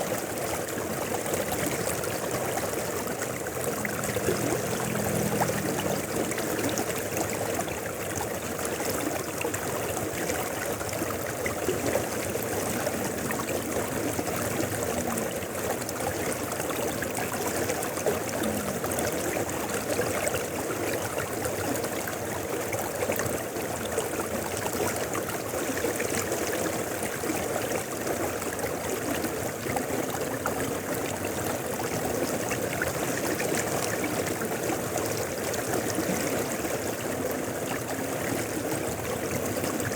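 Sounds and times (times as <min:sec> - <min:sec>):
river rushing over rocks: 0:00.0 - 0:39.9
water splashes: 0:00.0 - 0:39.9.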